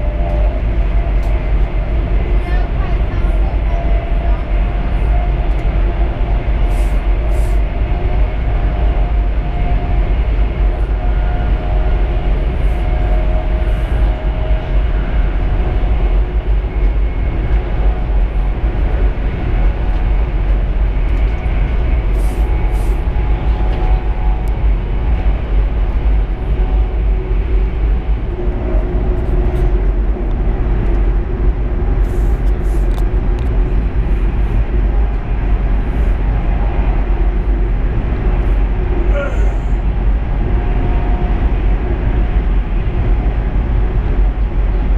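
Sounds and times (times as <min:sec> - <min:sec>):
train rumbling inside carriage: 0:00.0 - 0:44.9.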